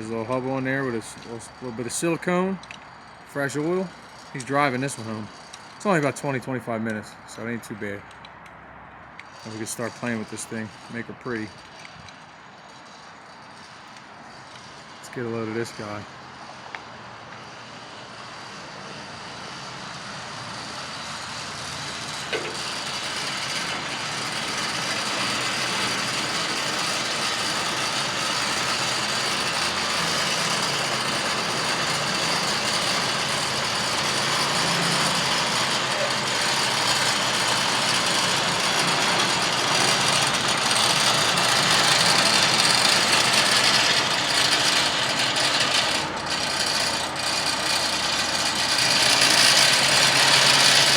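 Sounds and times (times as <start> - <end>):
diesel truck engine running: 0.0 - 8.2, 9.2 - 50.9.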